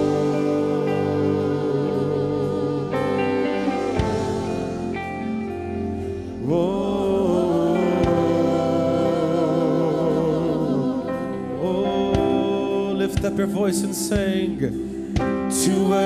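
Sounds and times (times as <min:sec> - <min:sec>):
person singing with vibrato: 0:00.0 - 0:16.0
sustained band chords: 0:00.0 - 0:16.0.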